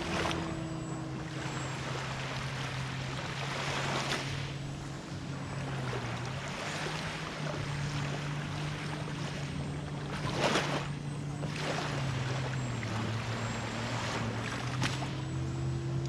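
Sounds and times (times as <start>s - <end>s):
model plane motor droning: 0.0s - 16.0s
surf: 0.0s - 16.0s.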